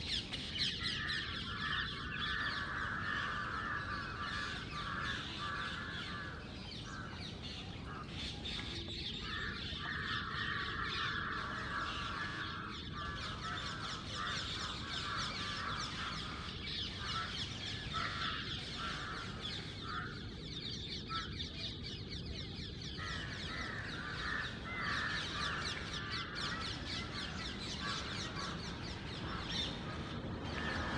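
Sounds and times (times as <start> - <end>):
crows cawing: 0.6 - 21.5, 22.9 - 30.9.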